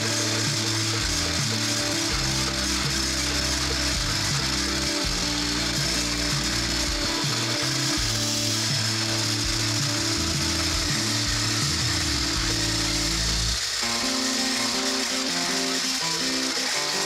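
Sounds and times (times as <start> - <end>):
background music: 0.0 - 17.0
electric hand blender whirring: 0.0 - 17.0.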